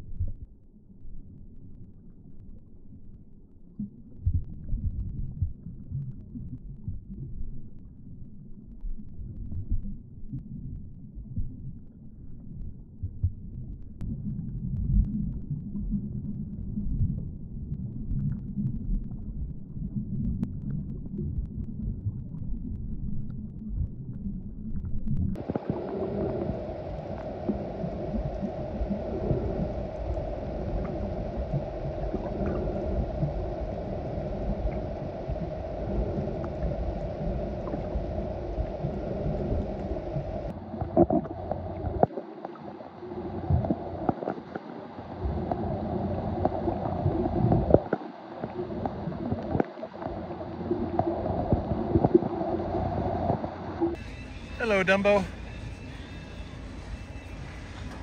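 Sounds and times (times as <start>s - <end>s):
underwater rumble and gurgling: 0.0s - 54.5s, 55.3s - 58.0s.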